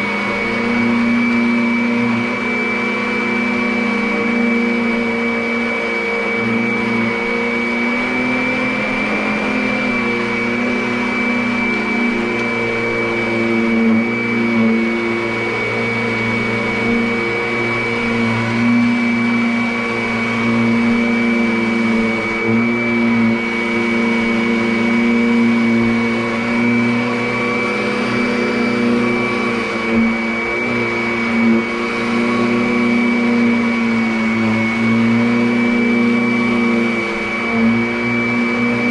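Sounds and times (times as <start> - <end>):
vacuum cleaner motor whining: 0.0 - 38.9.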